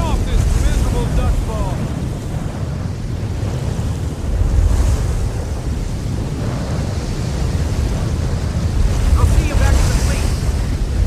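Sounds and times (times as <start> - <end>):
wind rushing with low rumble: 0.0 - 11.0.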